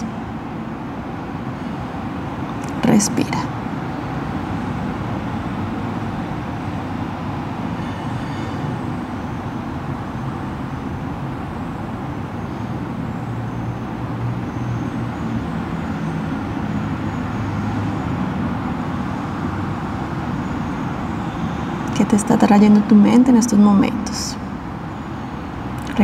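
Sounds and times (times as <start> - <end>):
low rumble of road traffic: 0.0 - 26.0.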